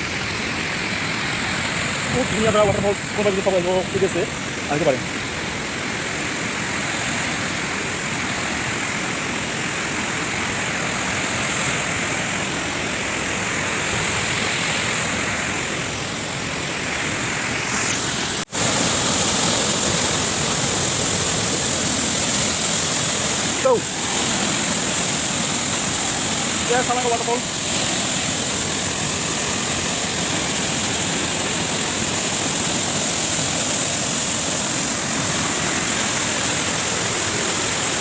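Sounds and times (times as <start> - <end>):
waterfall rushing roar: 0.0 - 38.0.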